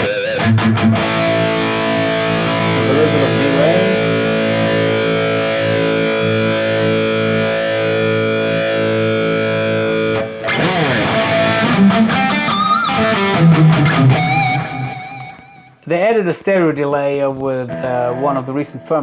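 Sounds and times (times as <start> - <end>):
distorted electric guitar: 0.0 - 15.8.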